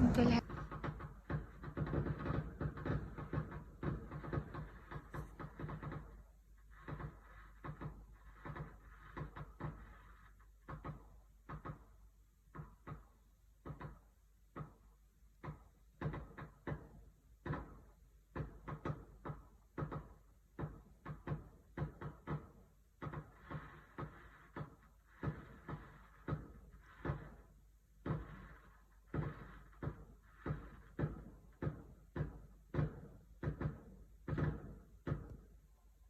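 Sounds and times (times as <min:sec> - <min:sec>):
fireworks bangs and pops: 0:00.0 - 0:36.0.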